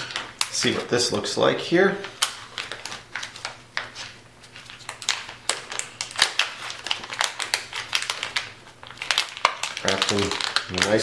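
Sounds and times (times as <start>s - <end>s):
foil pouch crackling: 2.0s - 11.0s.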